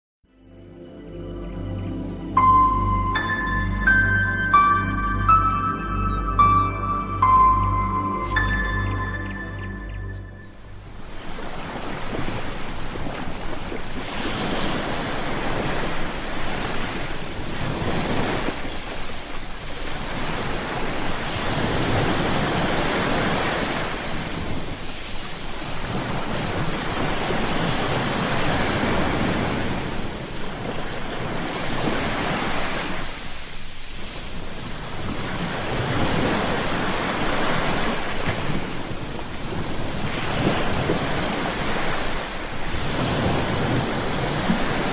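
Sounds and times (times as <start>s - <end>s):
sea waves breaking on shore: 2.3s - 44.9s.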